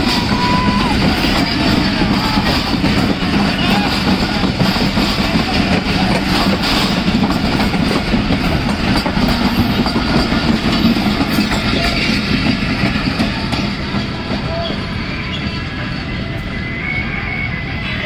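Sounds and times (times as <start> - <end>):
train wheels running on rails: 0.0 - 18.0.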